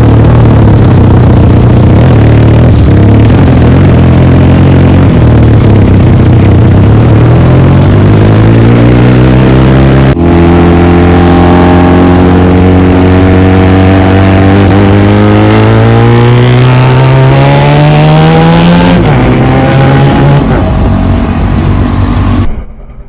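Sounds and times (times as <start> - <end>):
motorcycle engine revving: 0.0 - 22.5.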